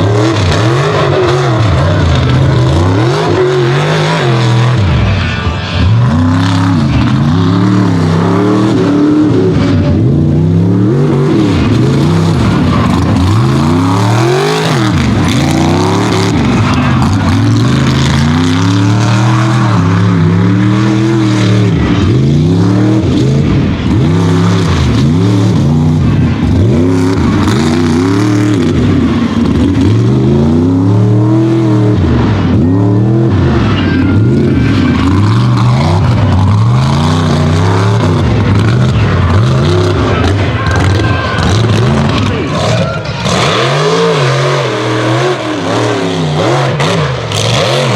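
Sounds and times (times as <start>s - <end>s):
truck engine revving hard: 0.0s - 47.9s.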